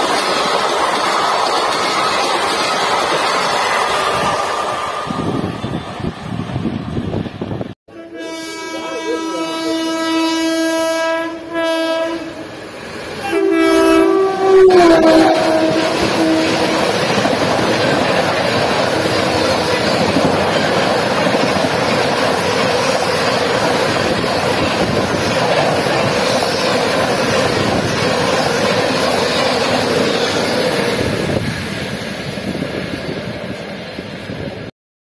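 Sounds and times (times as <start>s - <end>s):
train coaches rushing past: 0.0s - 34.7s.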